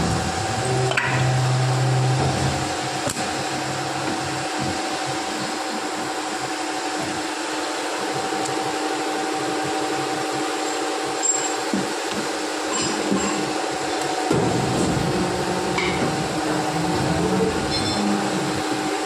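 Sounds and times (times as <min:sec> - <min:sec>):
hydraulic pump humming: 0:00.0 - 0:19.0.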